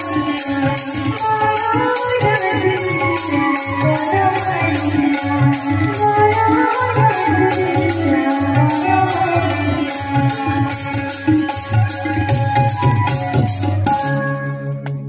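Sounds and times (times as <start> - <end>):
woman singing devotional melody: 0.0 - 13.4
harmonium: 0.0 - 15.0
tabla beat: 0.0 - 15.0.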